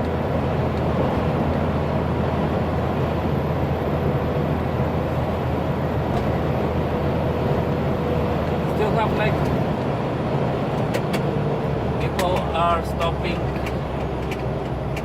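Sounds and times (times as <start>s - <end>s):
truck cab engine and road rumble: 0.0s - 15.0s.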